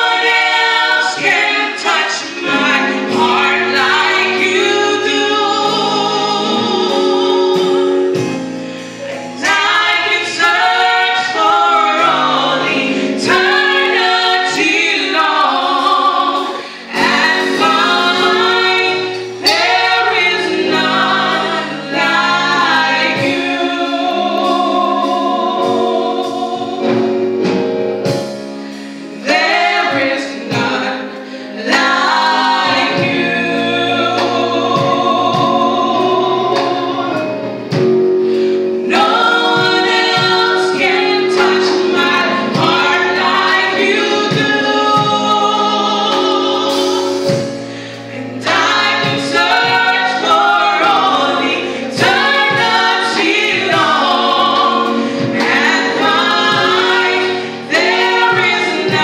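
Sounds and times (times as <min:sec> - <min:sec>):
women singing gospel: 0:00.0 - 0:59.0.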